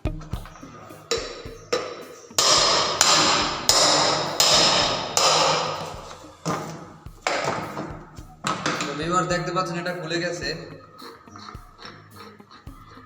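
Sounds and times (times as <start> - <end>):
hammer striking metal casing: 0.0 - 10.7.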